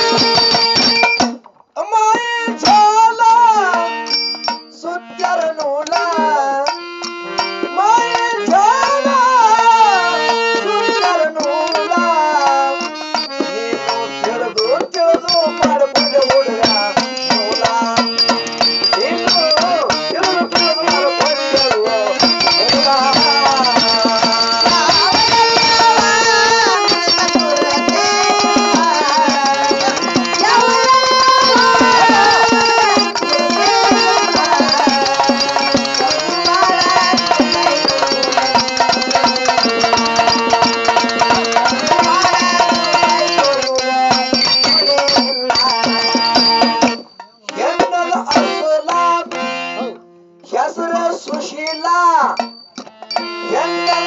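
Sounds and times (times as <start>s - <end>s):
men singing devotional song over pa: 0.0s - 1.0s, 1.8s - 52.6s, 53.2s - 54.0s
held accompanying tones: 0.0s - 54.0s
percussion: 0.0s - 54.0s.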